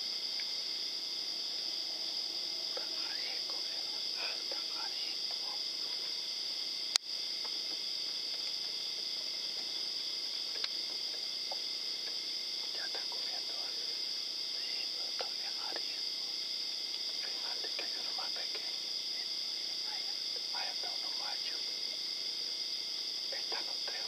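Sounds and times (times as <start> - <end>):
night insects chirring: 0.0 - 24.0.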